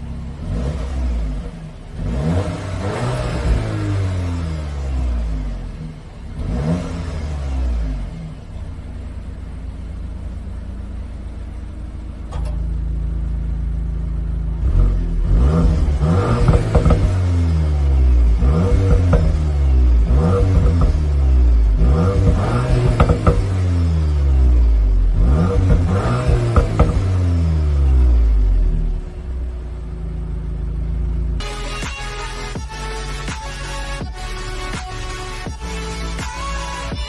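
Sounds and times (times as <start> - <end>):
car engine humming and revving: 0.0 - 37.0.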